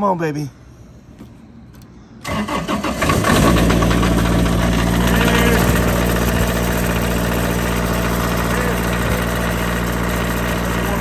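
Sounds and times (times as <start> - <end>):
diesel engine starting and running: 1.7 - 11.0.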